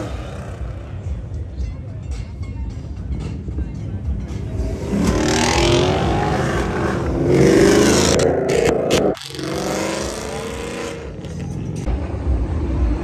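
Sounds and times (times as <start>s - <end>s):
car engines revving: 0.0s - 1.5s, 4.0s - 13.0s.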